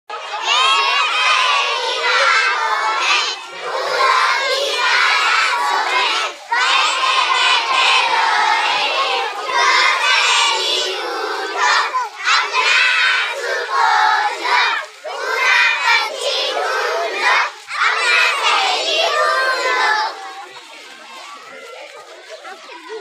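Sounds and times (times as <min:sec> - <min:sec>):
girls chanting a song: 0:00.2 - 0:20.3.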